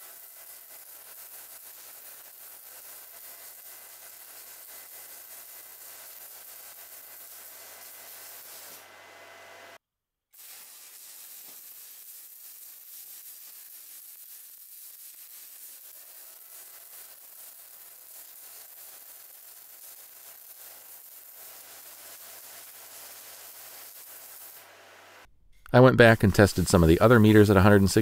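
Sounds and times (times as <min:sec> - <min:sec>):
welding arc hissing: 0:00.0 - 0:09.8, 0:10.4 - 0:28.0.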